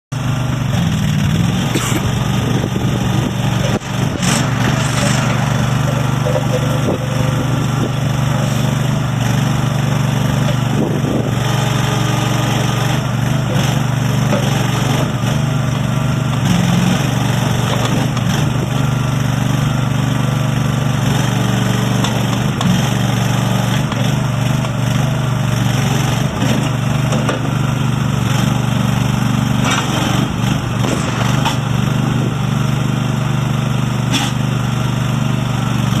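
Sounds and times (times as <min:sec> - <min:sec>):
backhoe engine running: 0:00.1 - 0:36.0.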